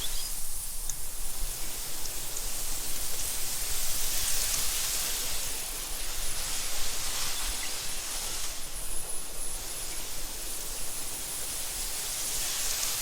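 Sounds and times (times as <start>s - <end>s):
wind blowing through grass: 0.0s - 13.0s.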